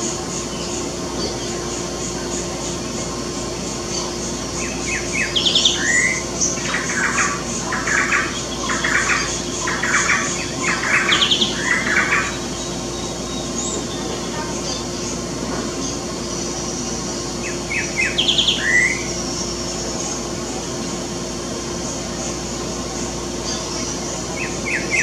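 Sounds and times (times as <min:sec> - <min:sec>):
songbird singing: 0:00.1 - 0:20.8, 0:21.9 - 0:25.0.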